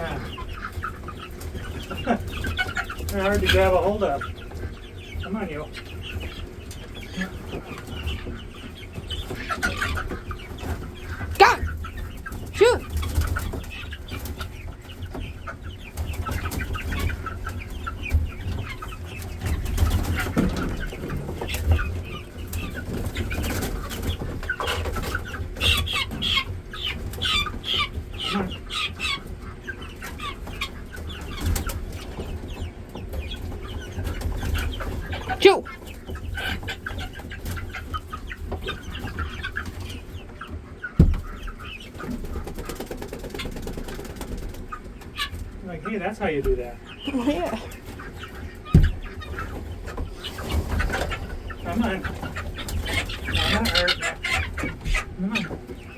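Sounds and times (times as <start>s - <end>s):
guinea fowl clucking and chirping: 0.0s - 55.9s.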